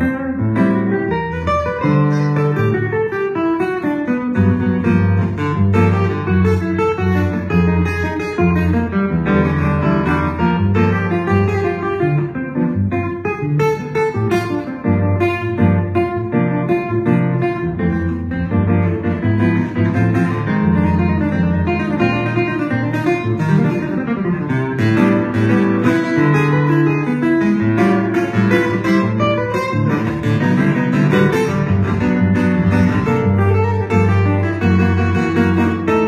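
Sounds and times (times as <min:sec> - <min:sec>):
plucked guitar notes: 0:00.0 - 0:36.0
steady bass line: 0:00.0 - 0:36.0.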